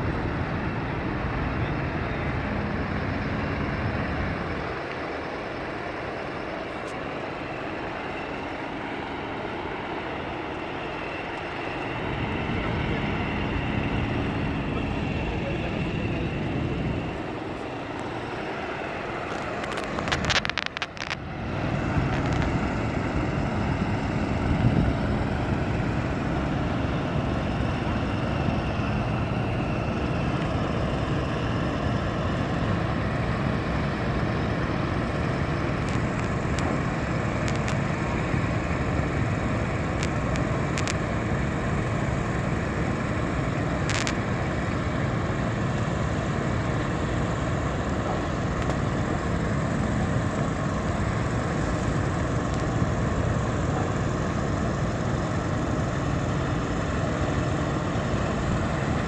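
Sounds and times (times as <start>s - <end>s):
engines droning: 0.0s - 59.0s.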